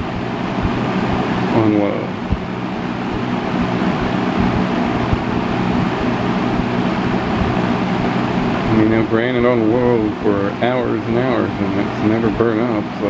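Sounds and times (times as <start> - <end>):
box fan motor hum and air rush: 0.0 - 13.0.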